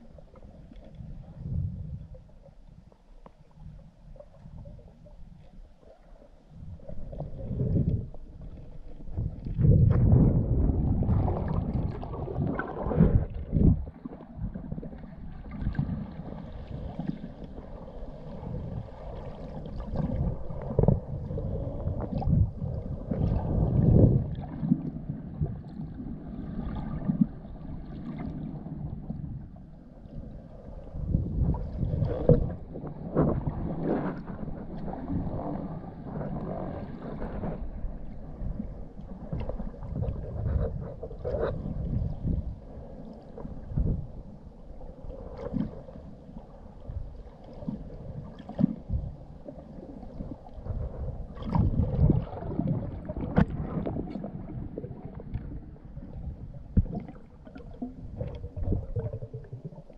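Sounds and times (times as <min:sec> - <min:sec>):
underwater water rushing: 0:00.0 - 0:59.9.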